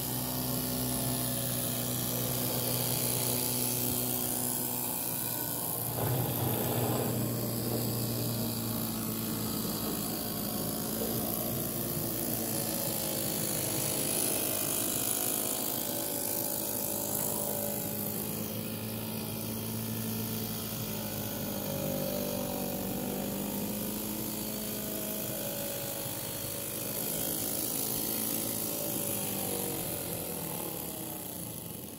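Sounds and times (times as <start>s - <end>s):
miniature steam engine whirring: 0.0s - 31.9s.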